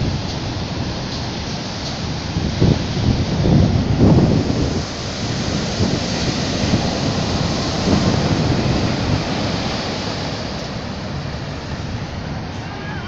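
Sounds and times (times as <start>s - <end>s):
stormy sea surf breaking: 0.0s - 13.0s
wind: 0.0s - 13.0s.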